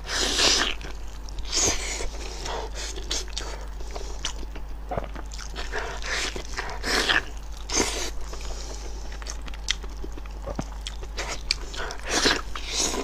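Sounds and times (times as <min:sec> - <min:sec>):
wet chewing and smacking: 0:00.2 - 0:13.0.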